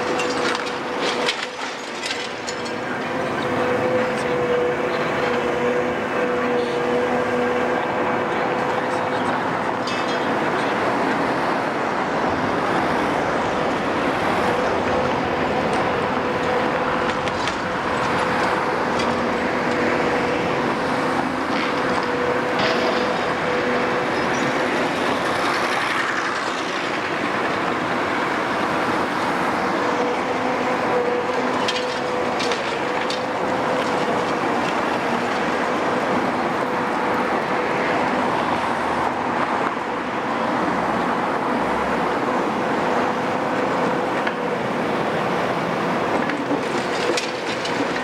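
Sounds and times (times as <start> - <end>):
diesel engine whining: 0.0 - 48.0.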